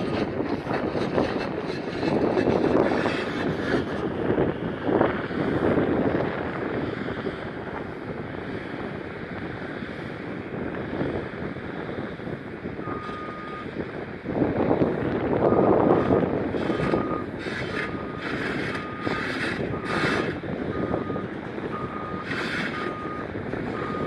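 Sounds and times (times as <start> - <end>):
heavy machinery engine rumble: 0.0 - 24.0
wind buffeting microphone: 0.0 - 24.0.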